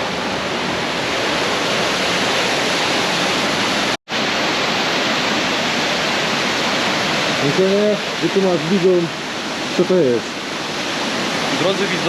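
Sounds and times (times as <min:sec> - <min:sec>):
water rushing down a cascade: 0:00.0 - 0:12.0.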